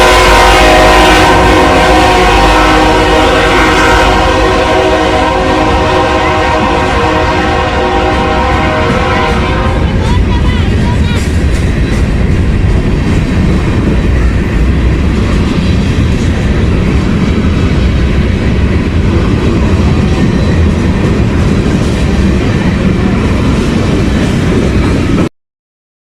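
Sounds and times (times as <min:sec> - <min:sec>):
train wheels rumbling on track: 0:00.0 - 0:25.3.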